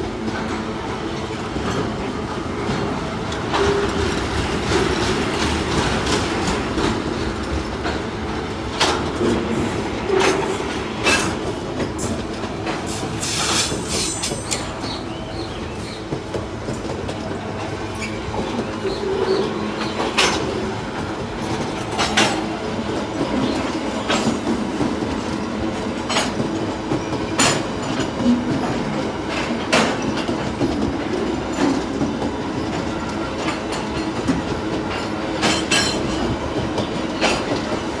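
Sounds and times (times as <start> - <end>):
train wheels rumbling on rail: 0.0 - 38.0
wheels clacking over rail joints: 0.0 - 38.0.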